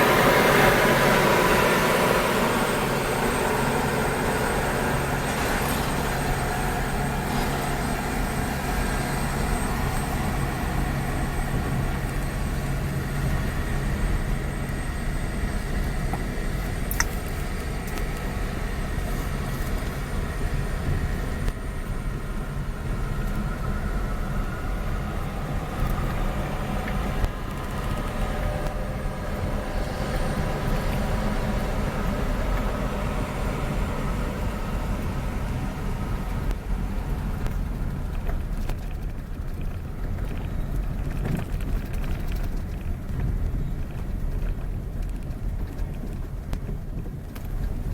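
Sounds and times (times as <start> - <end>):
road noise: 0.0 - 47.9
vehicle engine running: 0.0 - 47.9.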